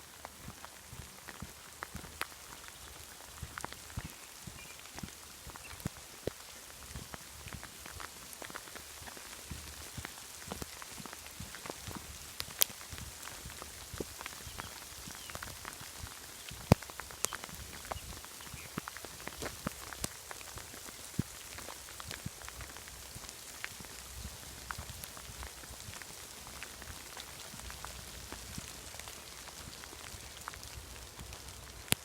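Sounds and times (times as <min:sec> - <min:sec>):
light rain hiss: 0:00.0 - 0:32.0
raindrops tapping: 0:00.0 - 0:32.0.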